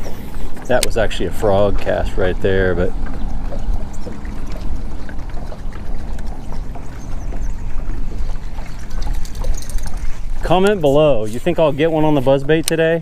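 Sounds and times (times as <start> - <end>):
steady low rumble: 0.0 - 12.3
water lapping against boat hull: 0.0 - 13.0.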